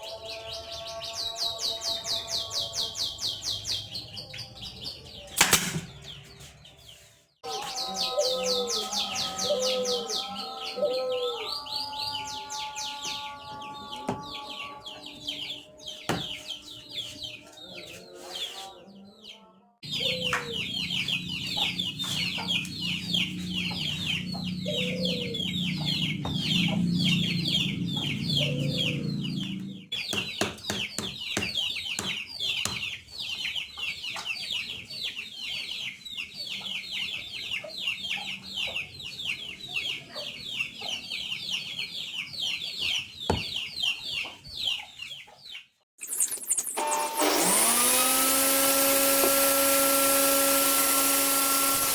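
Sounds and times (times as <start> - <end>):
birds chirping rapidly: 0.0 - 46.8.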